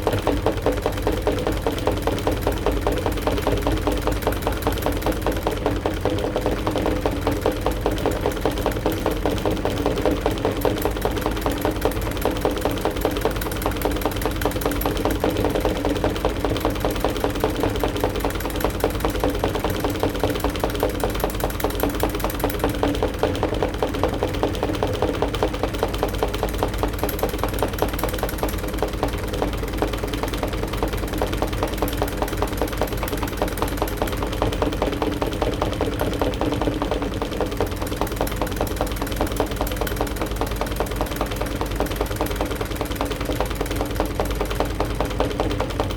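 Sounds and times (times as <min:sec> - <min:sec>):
washing machine running: 0:00.0 - 0:45.9.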